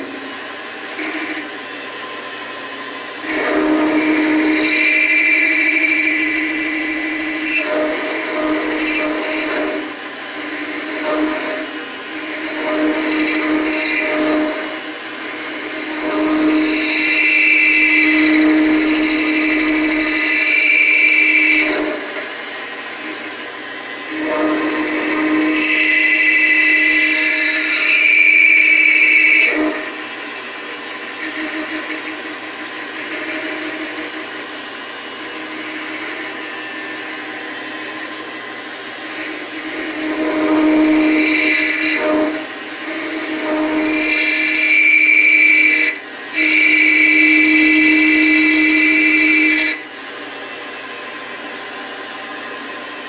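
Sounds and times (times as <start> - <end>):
cutting tool screeching: 0.0 - 49.9
metal lathe running: 0.0 - 53.0.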